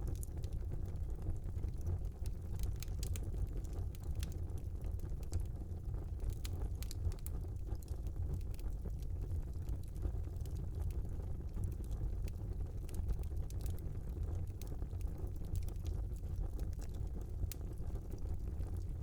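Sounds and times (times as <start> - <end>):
fire crackles and pops: 0.0 - 19.0
fire flames rumbling: 0.0 - 19.0.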